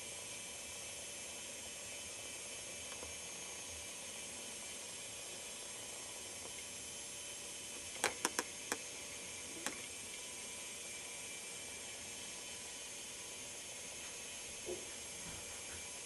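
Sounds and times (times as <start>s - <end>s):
camcorder hiss: 0.0s - 16.0s.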